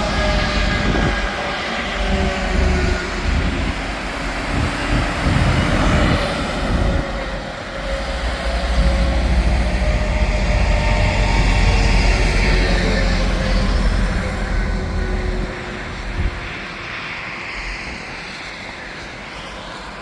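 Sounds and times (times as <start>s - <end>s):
trucks passing: 0.0s - 16.7s
highway traffic: 0.0s - 20.0s.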